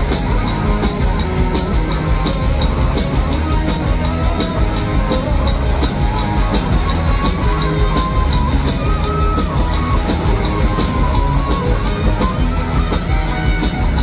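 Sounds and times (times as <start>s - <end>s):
drum beat: 0.0s - 14.0s
held melody line: 0.0s - 14.0s
live rock band playing: 0.0s - 14.0s.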